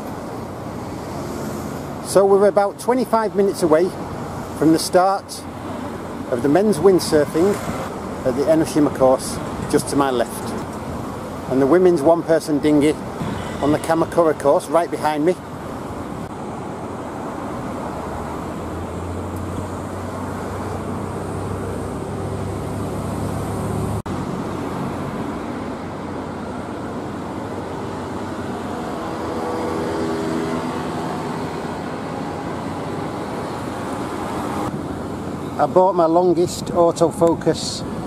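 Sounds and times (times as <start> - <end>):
cars passing: 0.0 - 38.0.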